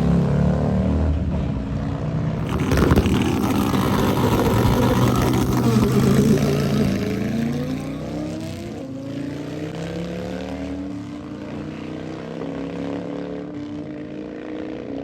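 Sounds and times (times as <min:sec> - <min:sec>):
motorcycle engine at full throttle: 0:00.0 - 0:15.0.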